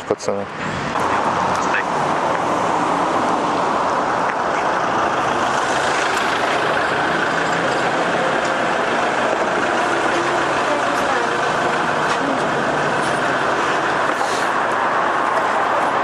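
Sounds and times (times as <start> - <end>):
street traffic noise: 0.0 - 16.0
minibus engine running low: 0.6 - 16.0.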